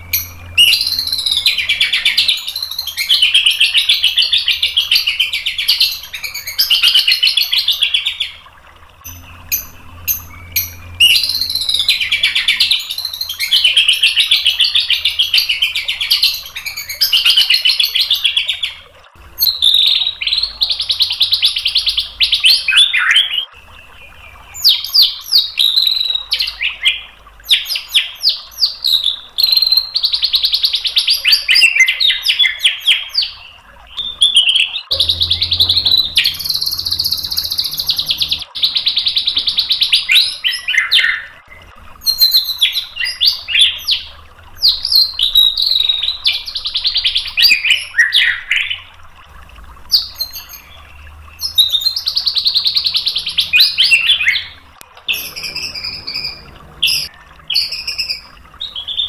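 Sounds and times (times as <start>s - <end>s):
bird singing trills and whistles: 0.0s - 18.8s, 19.4s - 48.9s, 49.9s - 59.0s.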